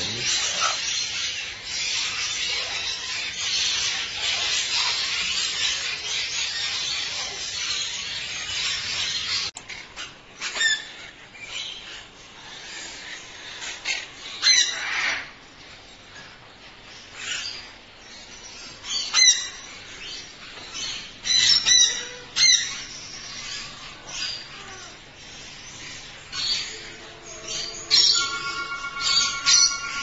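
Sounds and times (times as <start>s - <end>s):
parrots chattering: 0.0s - 15.3s, 20.8s - 30.0s.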